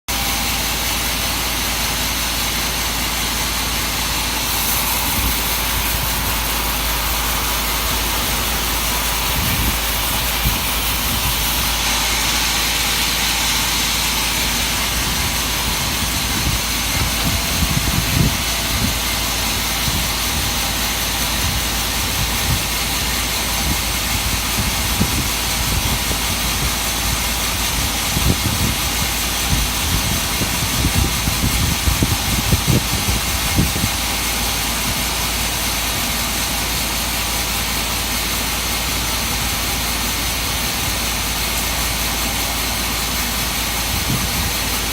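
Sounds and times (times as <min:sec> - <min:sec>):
sawmill machinery drone: 0:00.1 - 0:44.9.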